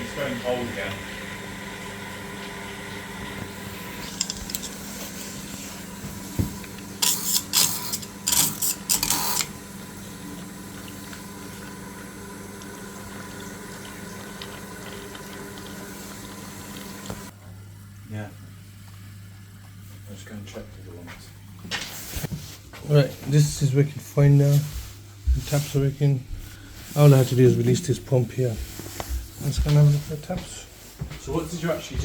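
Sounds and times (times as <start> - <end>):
water running in boiler pipes: 0.0 - 17.4, 18.0 - 32.0.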